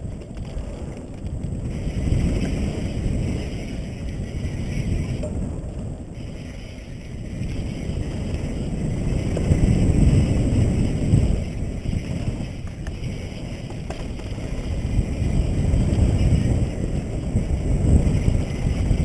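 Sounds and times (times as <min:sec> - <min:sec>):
bike tyre rumble: 0:00.0 - 0:19.0
wind rushing over camera: 0:00.0 - 0:19.0.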